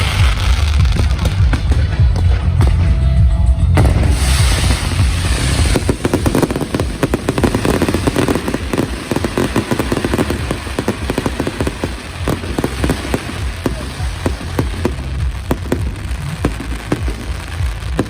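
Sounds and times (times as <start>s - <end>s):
fireworks popping and crackling: 0.0s - 3.0s, 3.8s - 18.0s.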